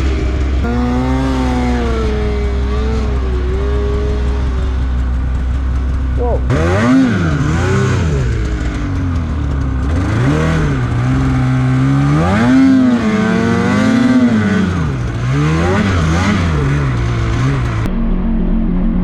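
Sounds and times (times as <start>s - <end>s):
snowmobile engine revving: 0.0s - 17.9s.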